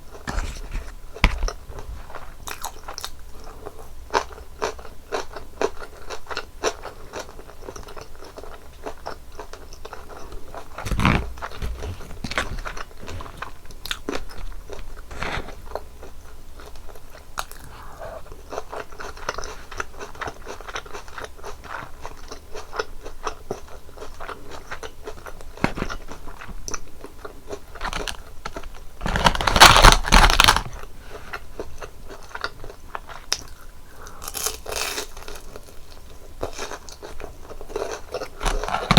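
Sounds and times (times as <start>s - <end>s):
crunching and chewing fried food: 0.0s - 38.9s.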